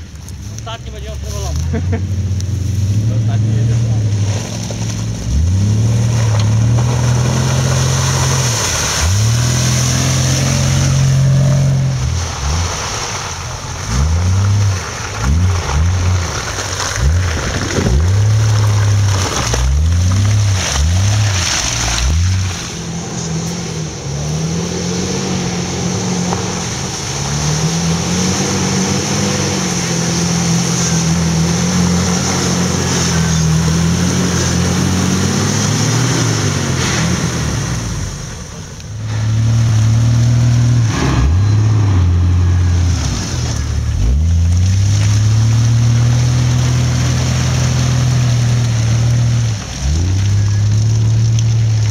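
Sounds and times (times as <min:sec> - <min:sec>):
off-road vehicle engine revving: 0:00.0 - 0:51.9.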